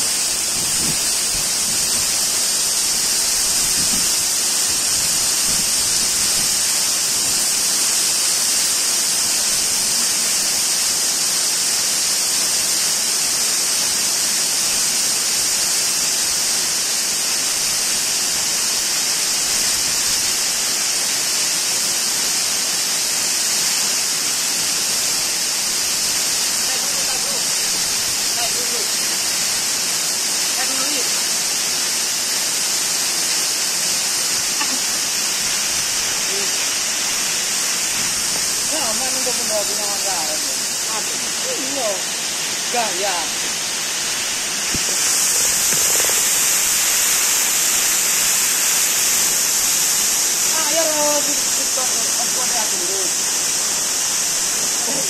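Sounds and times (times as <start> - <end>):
waterfall pouring: 0.0 - 55.0.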